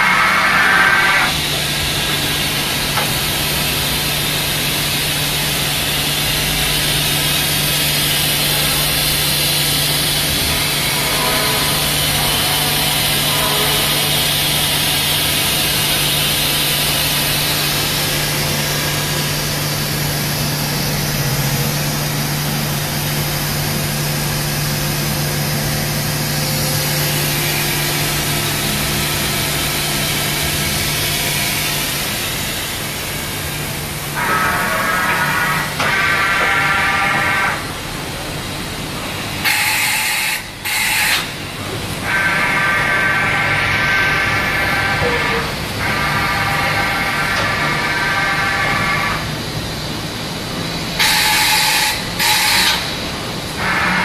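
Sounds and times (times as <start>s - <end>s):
machining center humming: 0.0s - 54.0s.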